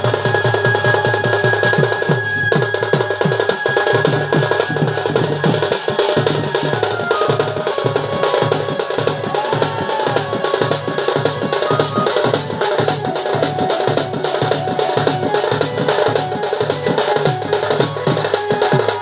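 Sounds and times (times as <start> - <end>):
folk drum ensemble: 0.0 - 19.0
held high tone: 1.8 - 19.0.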